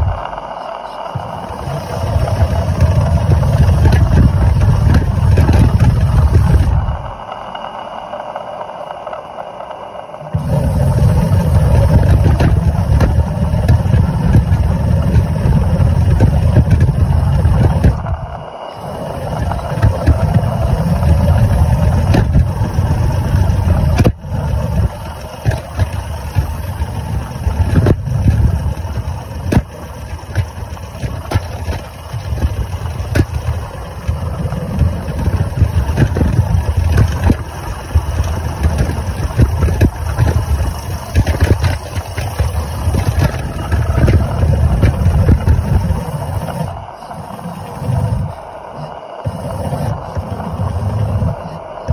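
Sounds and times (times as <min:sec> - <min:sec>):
model wagon rumbling on paving: 0:00.0 - 0:07.3, 0:10.3 - 0:51.9.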